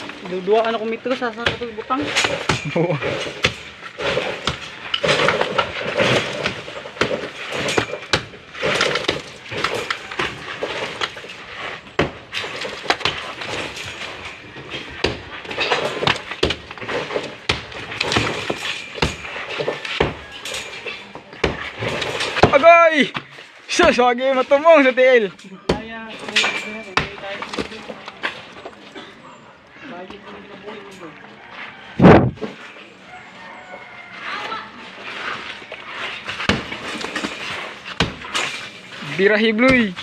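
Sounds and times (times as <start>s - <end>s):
concrete crumbling: 0.0s - 29.0s, 35.0s - 40.0s.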